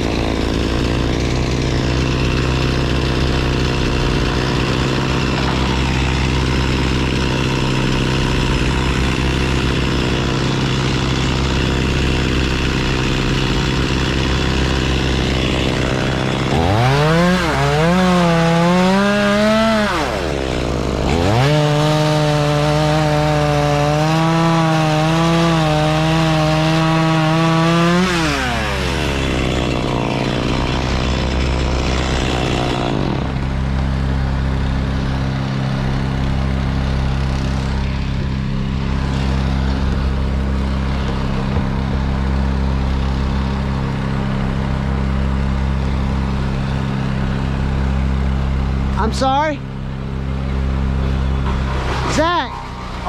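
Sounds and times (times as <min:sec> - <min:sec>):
chainsaw revving: 0:00.0 - 0:53.0
engine droning: 0:00.0 - 0:53.0.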